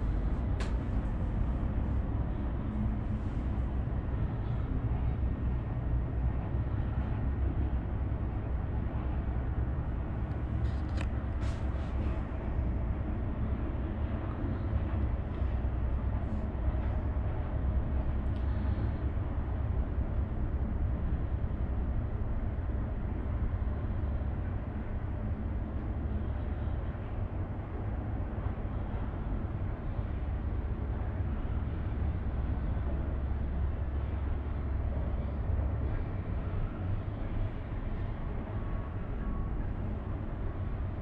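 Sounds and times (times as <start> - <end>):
air noise around cabin: 0.0 - 41.0
cable car rumble: 0.0 - 41.0.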